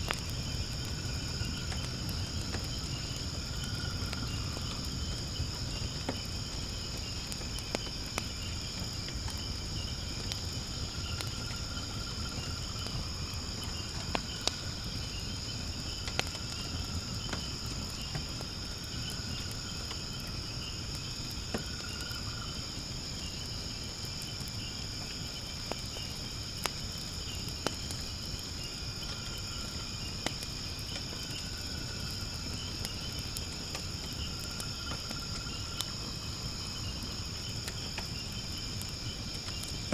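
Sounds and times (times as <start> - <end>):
crickets trilling: 0.0 - 39.9
firewood crackling and popping: 0.0 - 39.9.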